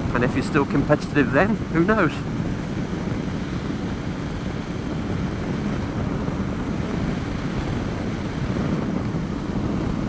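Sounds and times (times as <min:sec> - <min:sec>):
wind rush: 0:00.0 - 0:10.0.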